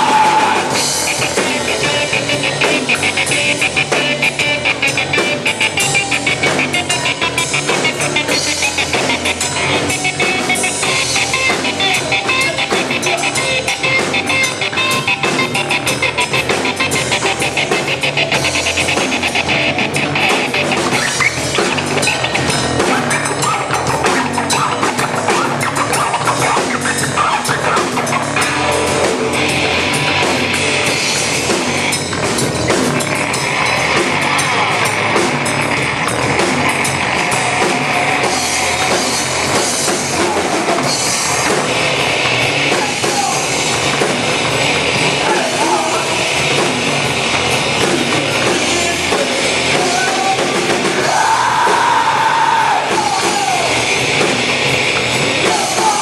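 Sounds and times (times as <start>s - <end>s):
drum kit: 0.0s - 56.0s
guitars: 0.0s - 56.0s
rock band playing live: 0.0s - 56.0s.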